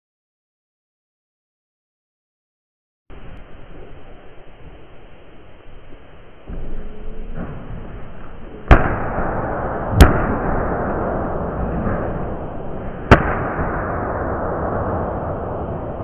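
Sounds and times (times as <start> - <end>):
steady background noise: 3.1 - 16.0.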